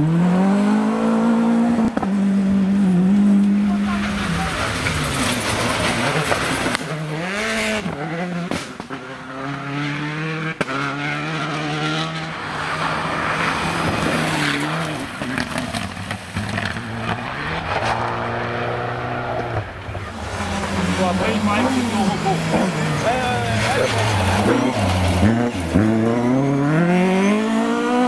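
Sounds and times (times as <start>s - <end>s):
rally cars passing at speed: 0.0s - 28.0s.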